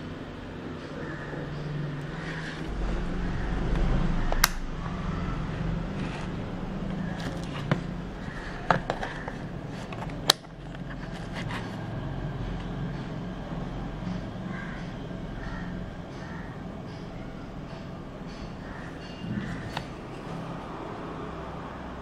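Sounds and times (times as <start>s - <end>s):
low background rumble: 0.0s - 19.7s.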